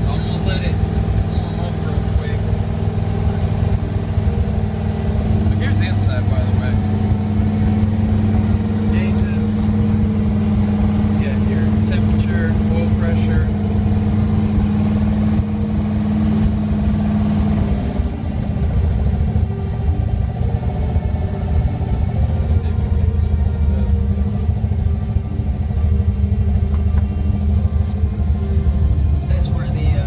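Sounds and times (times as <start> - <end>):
pickup engine idling: 0.0 - 30.0.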